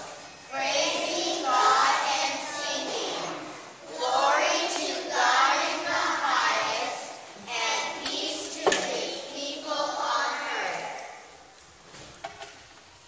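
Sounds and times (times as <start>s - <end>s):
children singing together: 0.0s - 11.3s.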